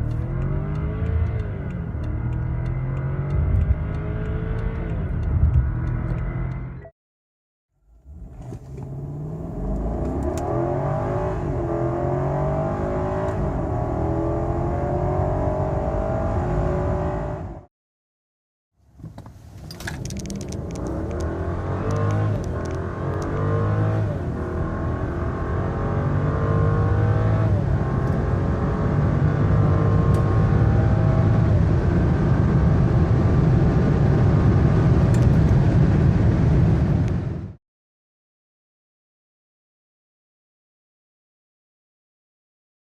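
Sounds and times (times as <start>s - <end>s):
car engine accelerating through gears: 0.0s - 6.9s, 7.9s - 17.7s, 19.7s - 37.6s.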